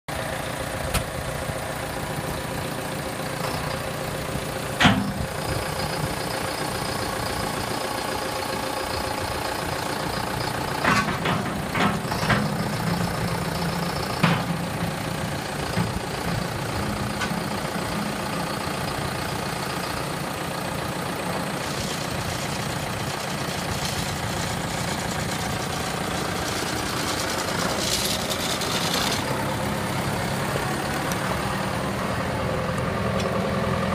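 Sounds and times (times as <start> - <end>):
tractor diesel engine idling: 0.1 - 33.9.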